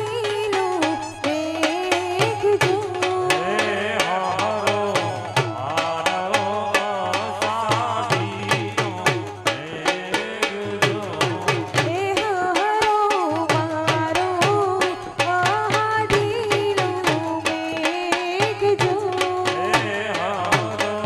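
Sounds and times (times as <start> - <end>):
drums beating fast rhythm: 0.0 - 21.0
person singing: 0.0 - 21.0.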